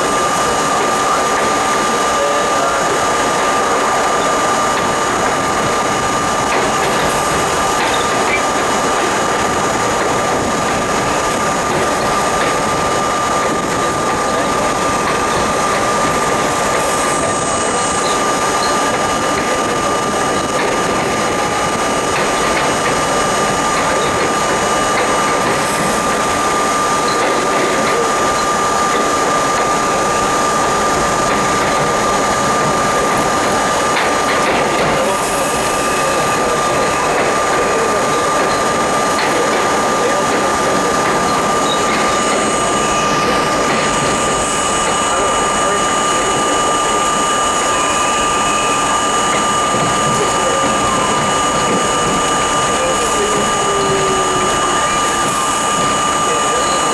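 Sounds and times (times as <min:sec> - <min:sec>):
constant high tone: 0:00.0 - 0:56.9
subway train rumbling: 0:00.0 - 0:56.9.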